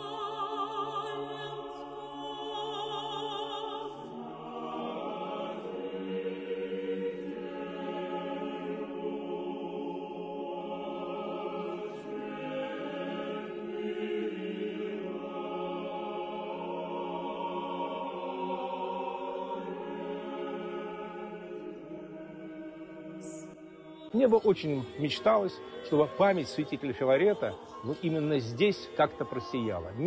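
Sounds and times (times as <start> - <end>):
choir singing a chant: 0.0 - 30.0.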